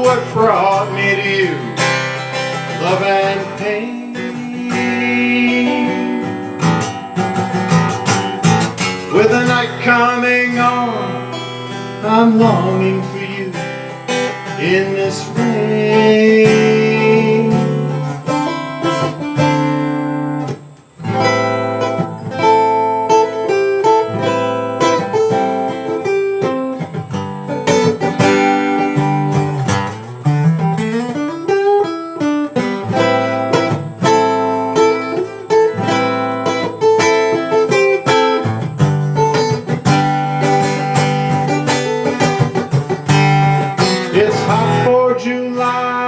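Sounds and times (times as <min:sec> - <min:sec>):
acoustic guitar picking: 0:00.0 - 0:46.0.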